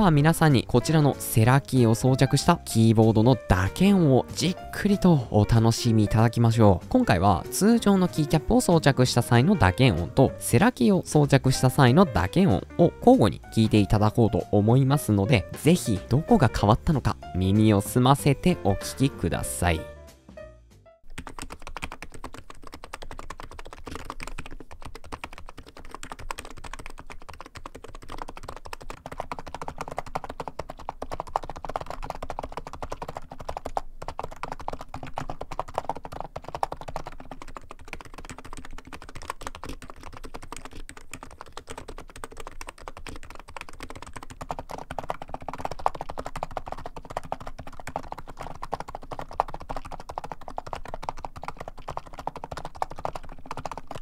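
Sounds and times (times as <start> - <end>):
fast keyboard typing: 0.0 - 19.9, 21.0 - 54.0.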